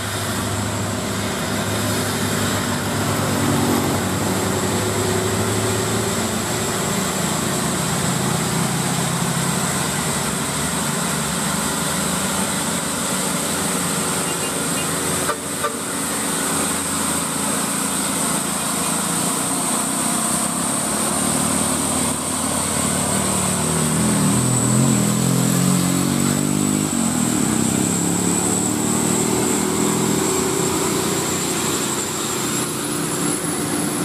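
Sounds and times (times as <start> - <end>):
truck diesel engines labouring: 0.0 - 34.0.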